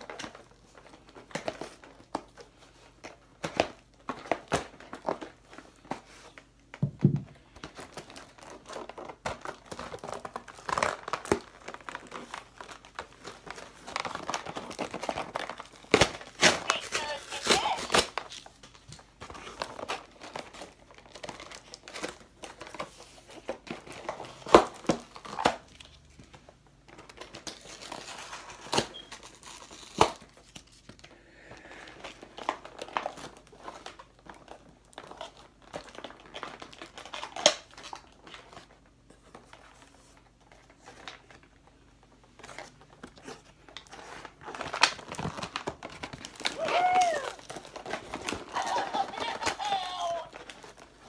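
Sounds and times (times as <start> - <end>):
cardboard and plastic crinkling: 0.0 - 51.0.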